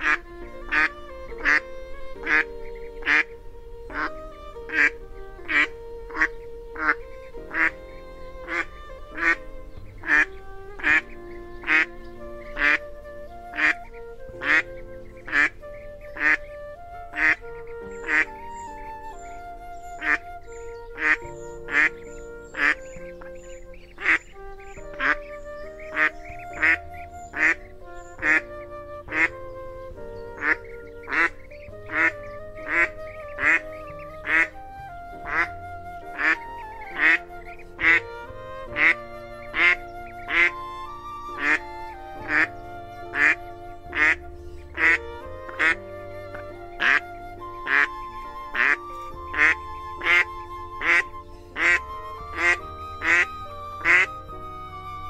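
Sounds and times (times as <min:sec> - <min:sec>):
chicks calling softly: 0:00.0 - 0:16.5, 0:17.1 - 0:34.6, 0:35.2 - 0:55.0
bird calling loudly: 0:00.0 - 0:55.0.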